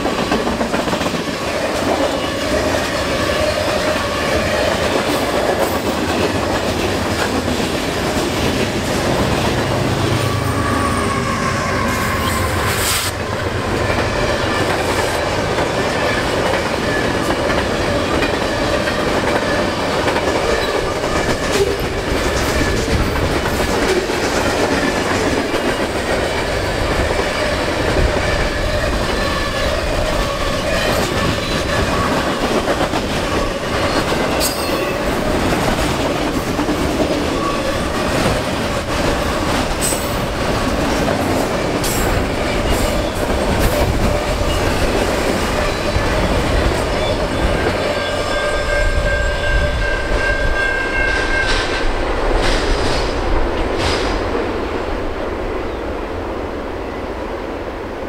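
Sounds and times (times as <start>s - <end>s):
rail joint clacks: 0.0s - 54.7s
train wheels rumbling on rails: 0.0s - 57.9s.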